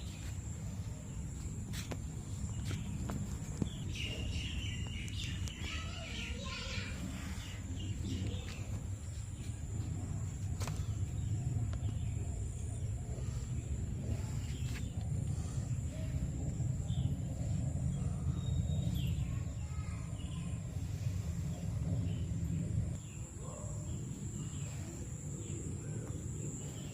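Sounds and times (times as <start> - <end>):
birds chirping: 0.0 - 26.9
steady low rumble: 0.0 - 26.9.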